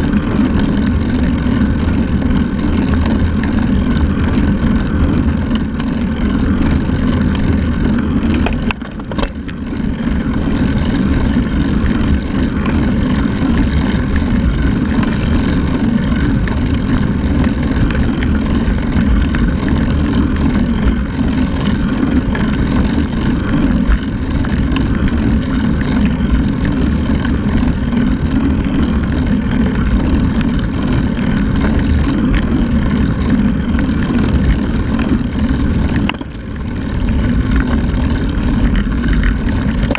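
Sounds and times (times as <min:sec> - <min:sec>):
bike tyres rumbling on asphalt: 0:00.0 - 0:39.9.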